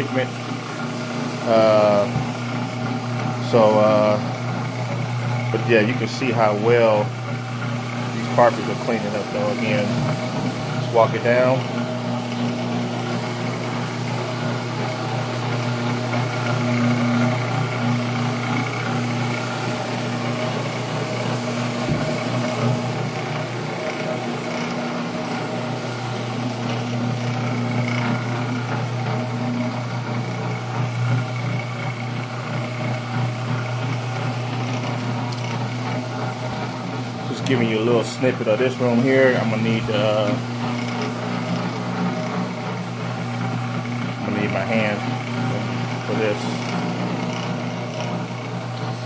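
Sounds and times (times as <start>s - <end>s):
floor machine motor hum: 0.0s - 49.0s.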